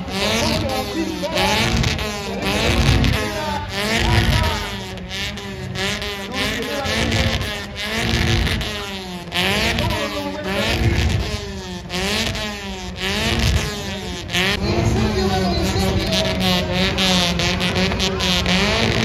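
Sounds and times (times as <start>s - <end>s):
car engine revving hard: 0.0s - 19.0s.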